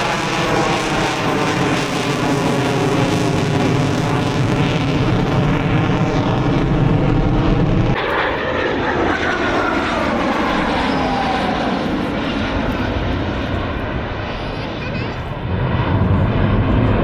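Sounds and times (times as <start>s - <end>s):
aircraft engine rumble passing: 0.0s - 17.0s.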